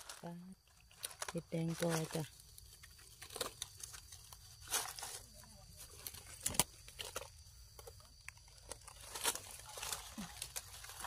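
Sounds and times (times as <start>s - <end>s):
dry leaf litter crackling: 0.0s - 11.0s.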